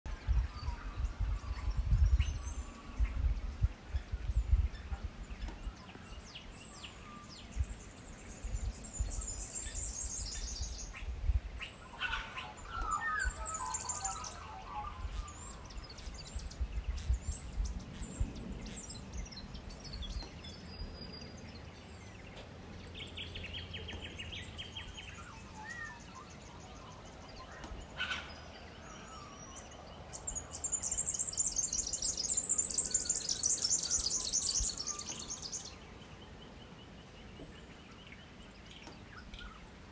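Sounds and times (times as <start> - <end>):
wind rumbling on microphone: 0.0 - 39.9
birds chirping and trilling: 0.1 - 39.9.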